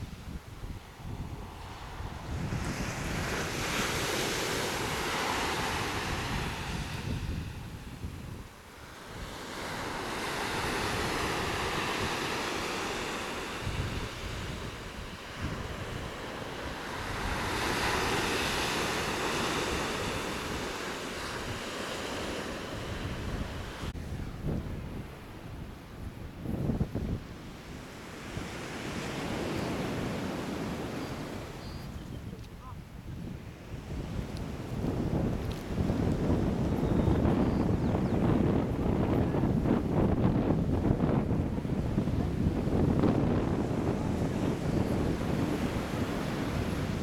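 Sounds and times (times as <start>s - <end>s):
waves breaking on sand beach: 0.0s - 24.0s, 27.2s - 32.0s, 33.4s - 47.0s
wind buffeting microphone: 0.0s - 47.0s.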